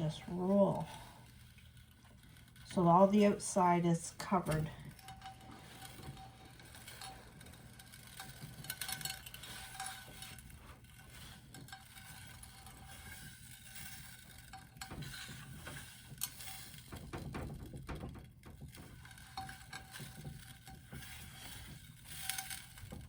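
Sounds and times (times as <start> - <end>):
sprinkles rattling in a pan: 0.0 - 23.0.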